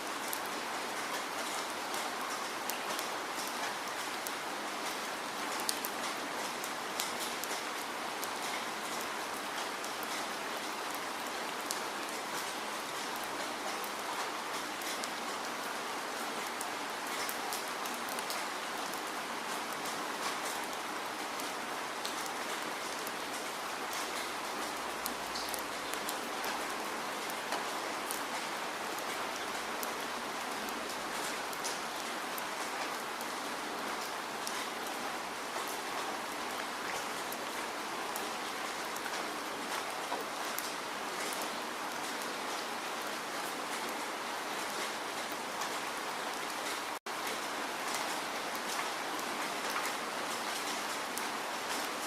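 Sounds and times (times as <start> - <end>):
raindrops ticking on surface: 0.0 - 52.0
steady rain falling: 0.0 - 52.0.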